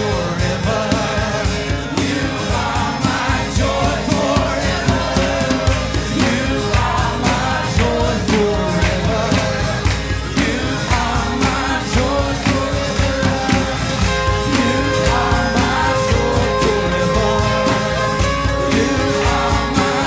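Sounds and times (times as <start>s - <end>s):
drum beat: 0.0s - 20.0s
worship band with singing: 0.0s - 20.0s.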